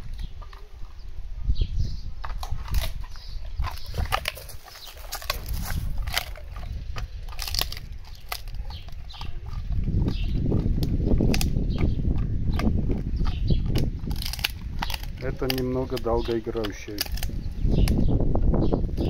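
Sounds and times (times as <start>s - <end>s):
dog crunching a chew: 0.0s - 1.1s, 1.9s - 18.1s.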